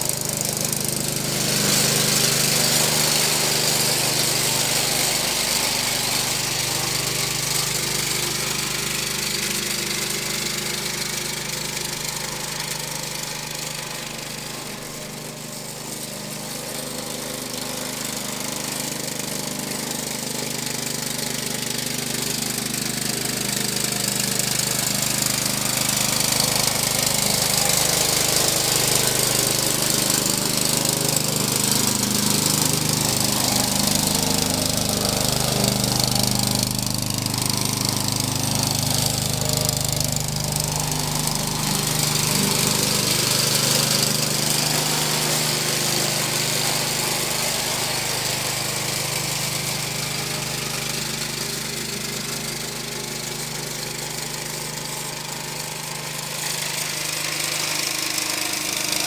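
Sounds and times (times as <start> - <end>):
lawn mower cutting grass: 0.0 - 59.0.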